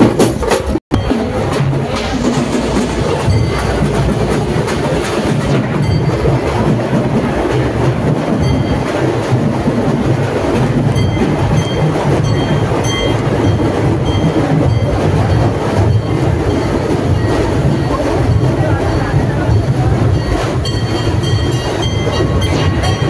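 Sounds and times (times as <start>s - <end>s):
street procession din: 0.0s - 23.0s.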